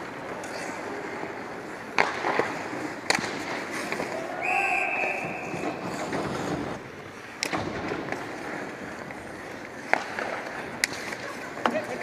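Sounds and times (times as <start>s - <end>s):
hockey sticks clacking: 0.0s - 12.0s
skates scraping on ice: 0.0s - 12.0s.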